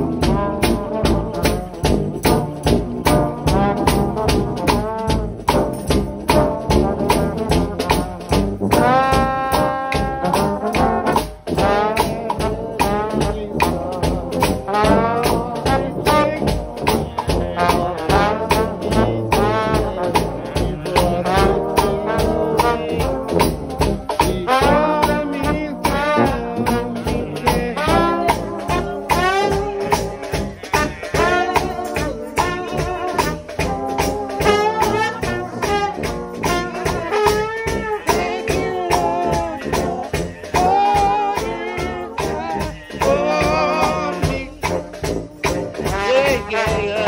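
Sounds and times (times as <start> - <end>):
brass band playing: 0.0 - 47.0
drum beat: 0.0 - 47.0
shaken tambourine: 0.0 - 47.0.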